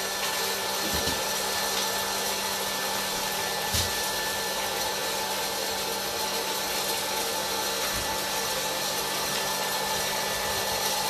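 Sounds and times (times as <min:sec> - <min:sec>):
popcorn popper blower running: 0:00.0 - 0:11.0.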